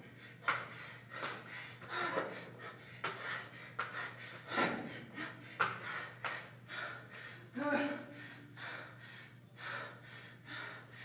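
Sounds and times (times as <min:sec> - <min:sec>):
man panting: 0:00.0 - 0:11.0.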